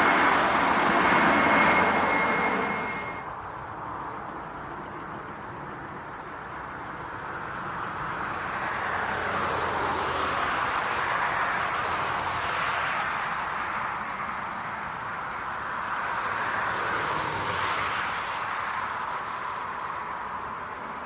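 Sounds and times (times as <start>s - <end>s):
airliner engines rushing: 0.0s - 21.0s.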